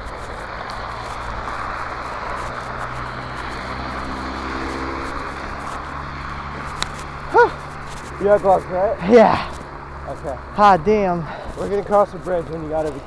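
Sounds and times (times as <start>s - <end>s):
distant engine drone: 0.0s - 13.0s.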